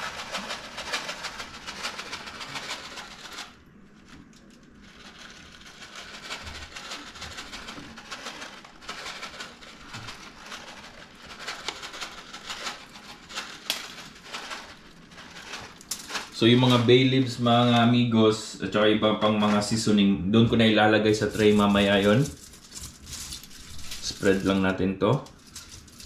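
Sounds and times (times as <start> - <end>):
plastic packet crinkling: 0.0 - 17.7, 21.1 - 26.0
peppercorns rattling in a packet: 0.0 - 17.9, 21.1 - 26.0.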